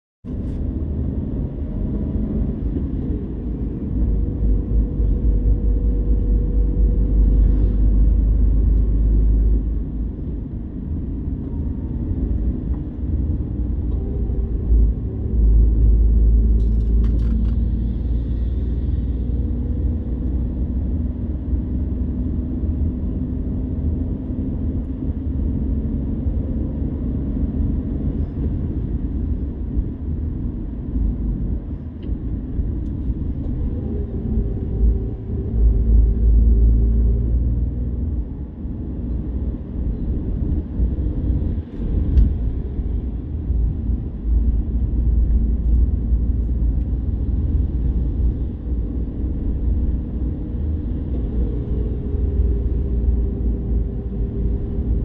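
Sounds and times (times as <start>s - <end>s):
wind and road rumble: 0.2s - 55.0s
faint engine hum: 0.3s - 55.0s.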